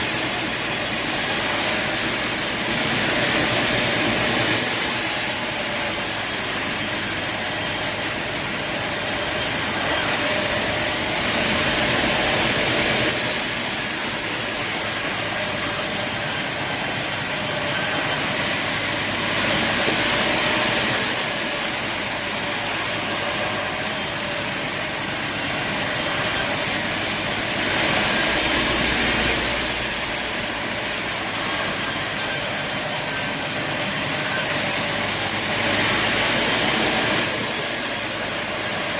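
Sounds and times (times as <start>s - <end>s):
sawmill machinery running with hiss: 0.0s - 38.9s.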